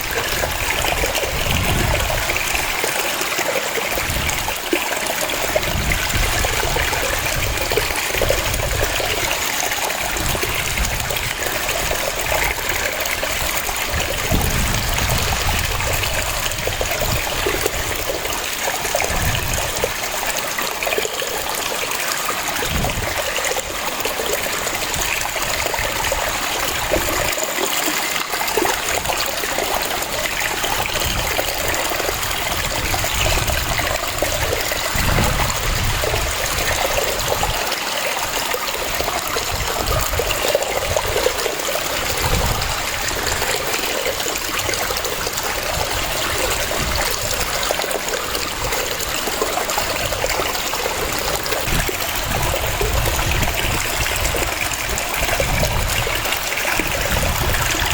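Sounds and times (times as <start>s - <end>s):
waterfall splashing over rocks: 0.0s - 57.9s.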